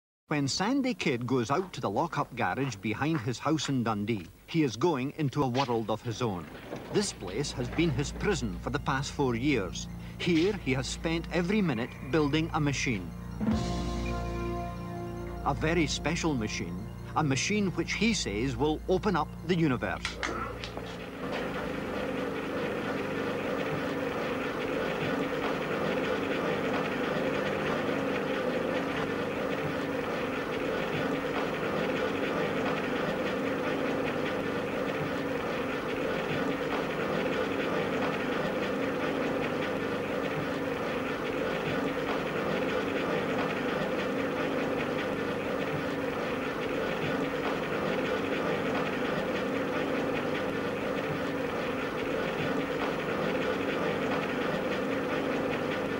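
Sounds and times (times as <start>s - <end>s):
machine whirring with fast rattle: 5.4s - 55.9s.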